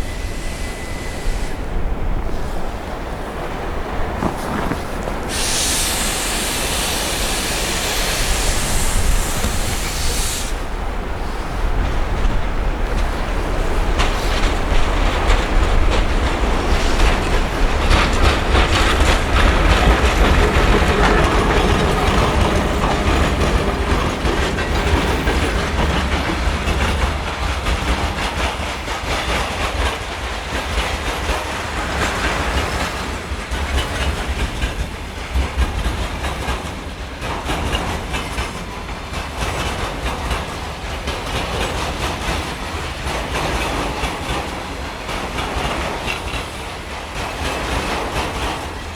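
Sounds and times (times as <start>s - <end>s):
train rumble: 0.0s - 48.9s
train wheels clattering: 0.0s - 48.9s.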